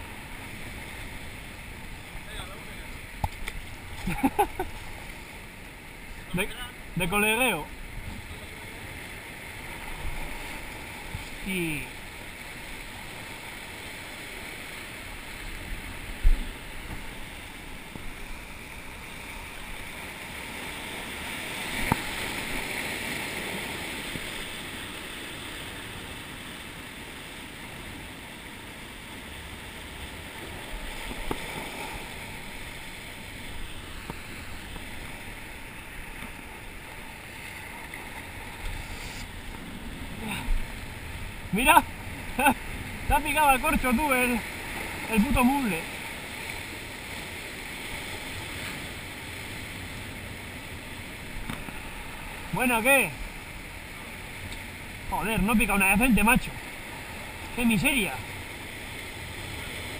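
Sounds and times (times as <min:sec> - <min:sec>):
waves washing against rocks: 0:00.0 - 0:59.9.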